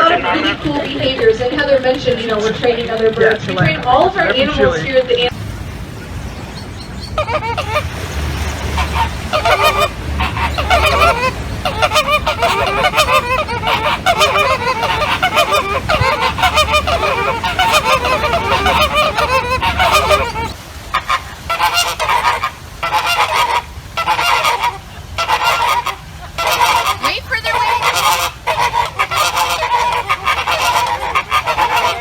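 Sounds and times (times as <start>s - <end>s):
flock of flamingos honking: 5.3s - 32.0s.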